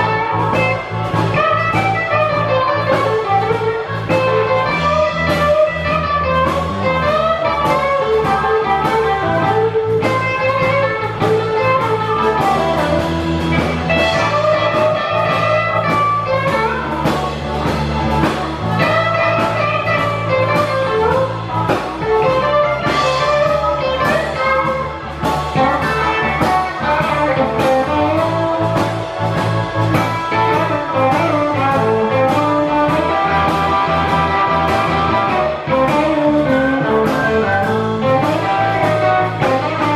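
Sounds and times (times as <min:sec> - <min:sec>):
blues band playing: 0:00.0 - 0:39.9
electric guitar lead: 0:00.0 - 0:39.9.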